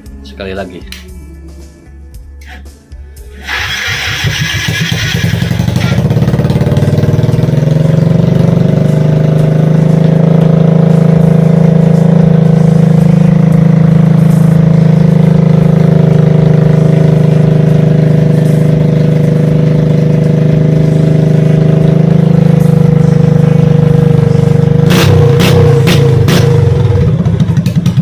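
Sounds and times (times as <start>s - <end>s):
motorcycle engine idling: 3.3s - 28.0s.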